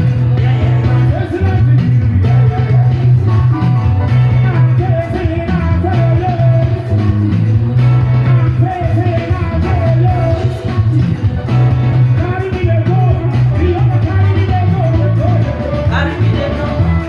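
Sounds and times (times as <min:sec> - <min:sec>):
upbeat music with singing: 0:00.0 - 0:17.0.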